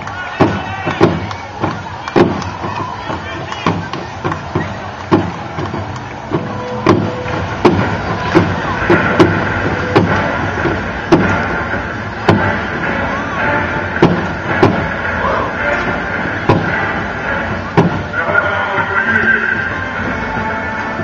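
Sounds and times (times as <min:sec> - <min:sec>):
crowd murmur: 0:00.0 - 0:21.0
marching drum strokes: 0:00.3 - 0:21.0.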